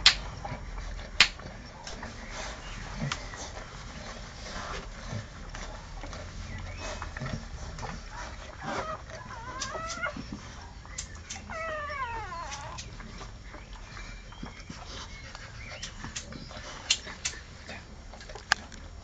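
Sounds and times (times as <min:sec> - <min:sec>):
puppies squealing: 0:00.0 - 0:17.6.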